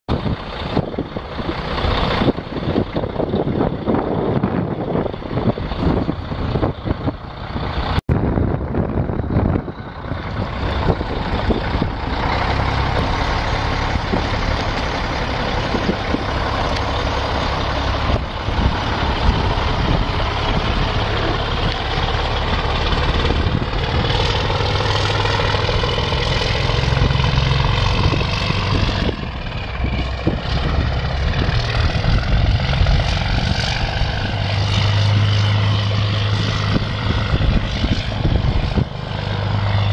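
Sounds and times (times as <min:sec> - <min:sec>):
diesel truck engine running: 0:00.1 - 0:39.9.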